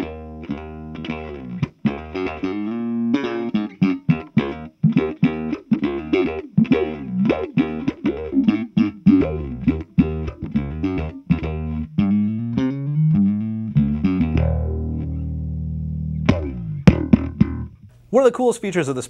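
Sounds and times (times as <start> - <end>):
bass guitar with wah filter: 0.0 - 18.1.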